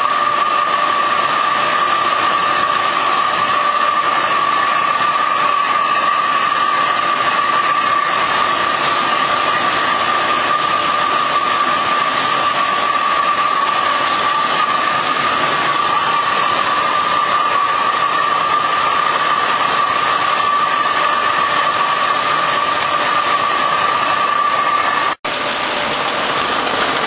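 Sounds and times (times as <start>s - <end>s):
veneer lathe whining: 0.0s - 27.0s.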